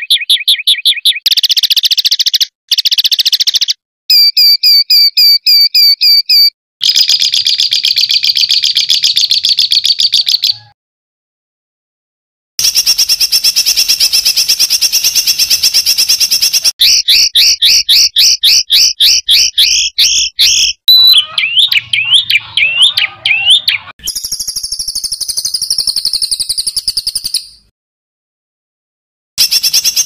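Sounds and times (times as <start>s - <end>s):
songbird singing: 0.0s - 10.7s, 12.6s - 27.7s.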